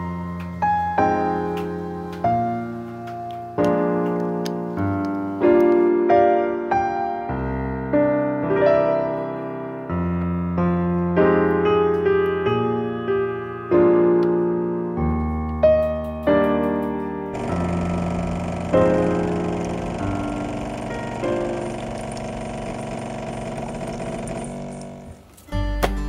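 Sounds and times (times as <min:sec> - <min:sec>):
gentle piano music: 0:00.0 - 0:22.2.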